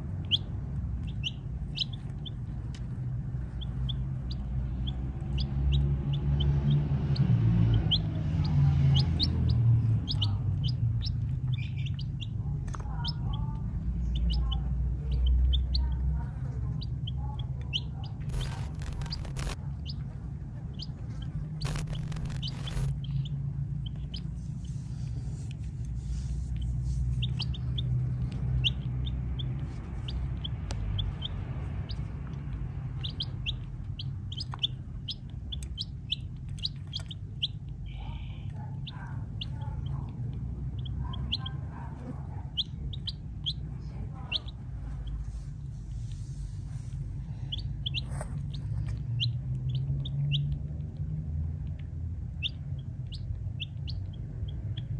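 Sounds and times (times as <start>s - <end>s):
chicks peeping: 0.0s - 54.9s
steady low rumble: 0.0s - 54.9s.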